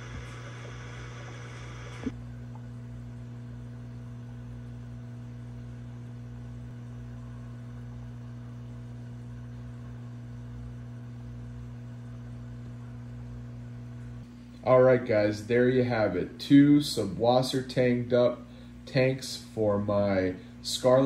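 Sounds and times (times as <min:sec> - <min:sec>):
low mains hum: 0:00.0 - 0:21.0.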